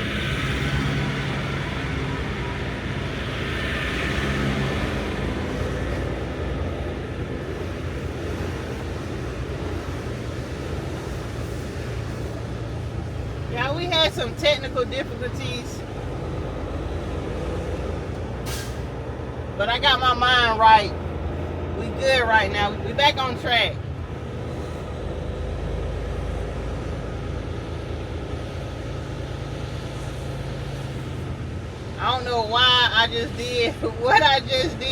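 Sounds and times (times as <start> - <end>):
road and cab rumble: 0.0 - 34.9
truck diesel engine running: 0.0 - 34.9.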